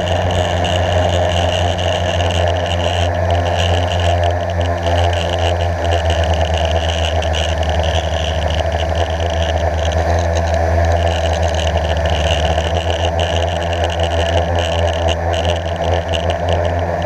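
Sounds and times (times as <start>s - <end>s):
quadcopter motors buzzing: 0.0s - 17.0s.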